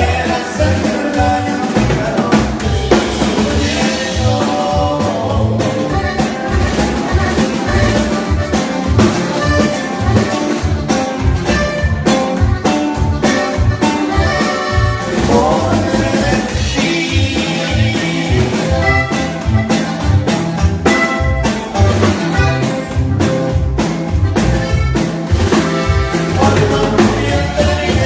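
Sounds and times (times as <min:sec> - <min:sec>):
norteno band music: 0:00.0 - 0:28.0.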